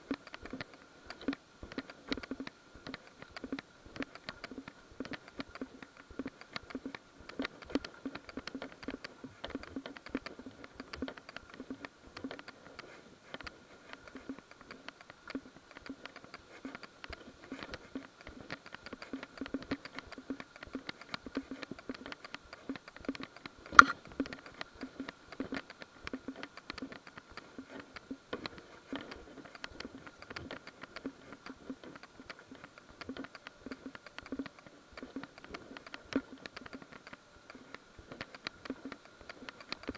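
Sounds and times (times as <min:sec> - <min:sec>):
faint steady tone: 0:00.0 - 0:39.9
sharp click: 0:00.1 - 0:39.9.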